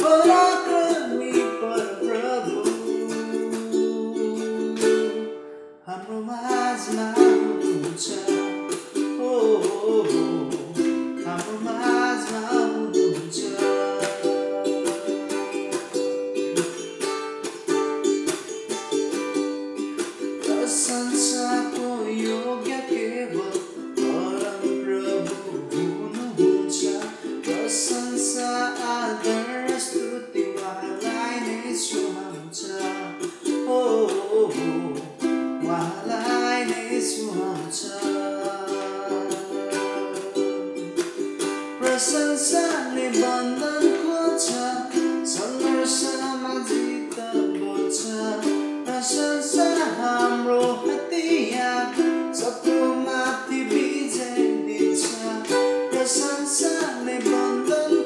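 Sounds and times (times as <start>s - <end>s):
ukulele strummed: 0.0s - 58.0s.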